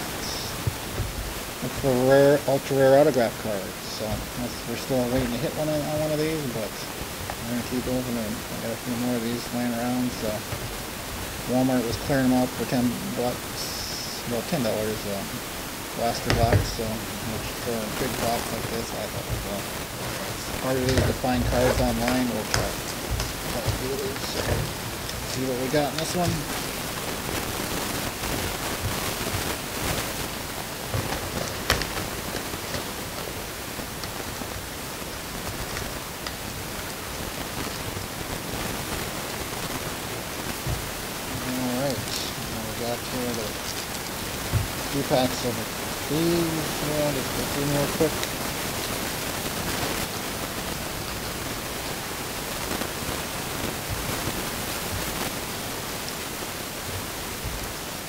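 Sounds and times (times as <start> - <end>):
steady hiss: 0.0 - 58.0
wrapping crinkling: 0.2 - 57.9.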